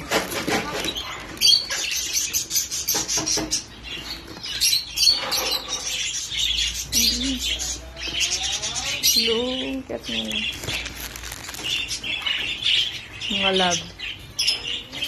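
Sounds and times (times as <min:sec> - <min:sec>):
parrots chattering: 0:00.0 - 0:15.0.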